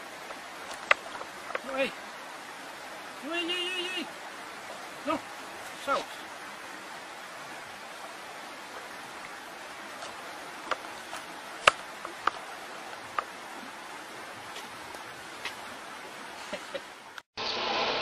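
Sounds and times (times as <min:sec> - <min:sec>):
outdoor ambience hiss: 0:00.0 - 0:18.0.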